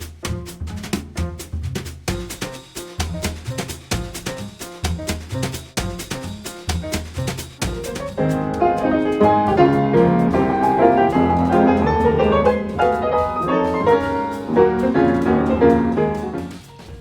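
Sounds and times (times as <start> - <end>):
piano instrumental music: 0.0 - 17.0.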